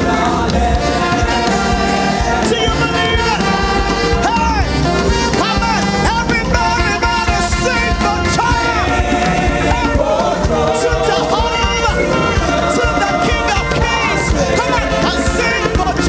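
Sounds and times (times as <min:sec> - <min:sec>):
band with drums: 0:00.0 - 0:16.0
crowd singing along: 0:00.0 - 0:16.0
voices singing: 0:00.0 - 0:16.0.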